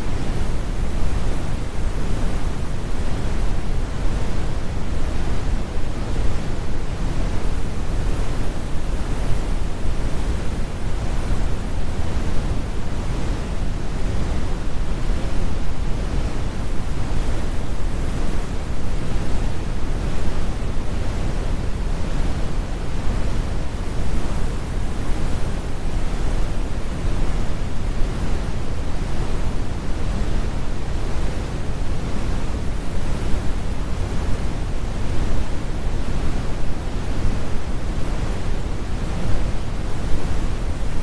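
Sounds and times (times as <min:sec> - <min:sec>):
steady brown noise: 0:00.0 - 0:41.0.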